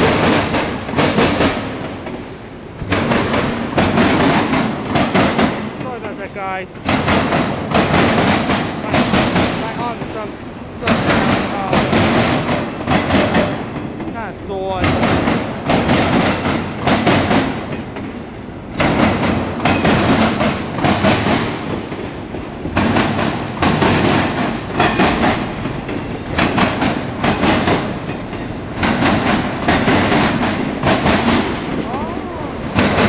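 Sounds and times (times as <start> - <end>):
train rumbling: 0.0 - 33.0
train wheels clattering: 0.0 - 33.0.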